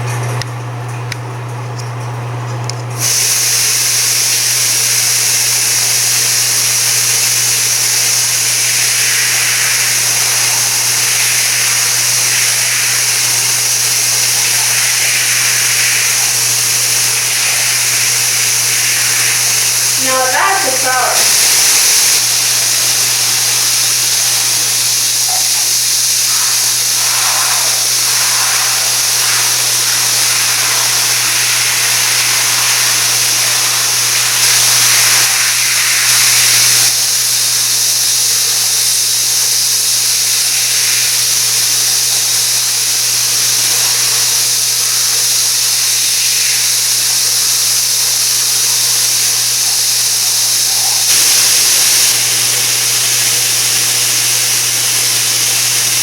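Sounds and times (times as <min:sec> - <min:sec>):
shower water spraying: 0:02.8 - 0:56.0.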